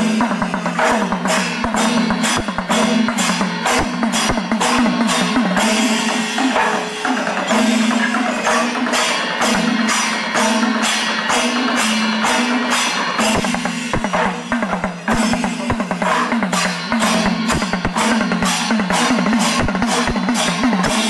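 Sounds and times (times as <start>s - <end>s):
jingling cymbal-like strokes: 0.0s - 21.0s.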